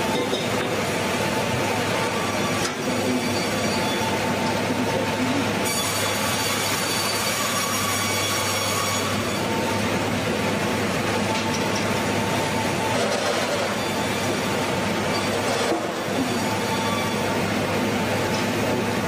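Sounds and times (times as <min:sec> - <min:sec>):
band sawmill cutting log: 0:00.0 - 0:19.0.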